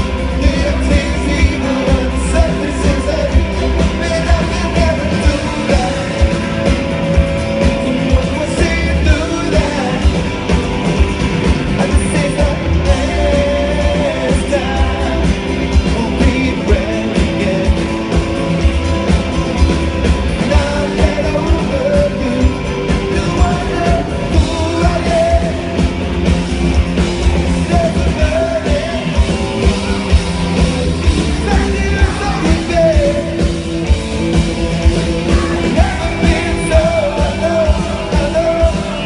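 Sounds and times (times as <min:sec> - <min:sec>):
live rock band playing: 0:00.0 - 0:39.0
steady drumbeat: 0:00.0 - 0:39.0.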